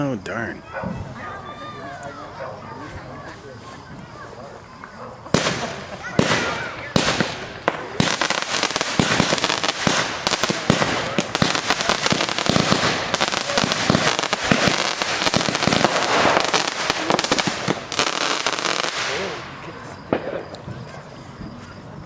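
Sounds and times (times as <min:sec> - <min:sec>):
fireworks bangs and crackling: 0:00.1 - 0:22.0.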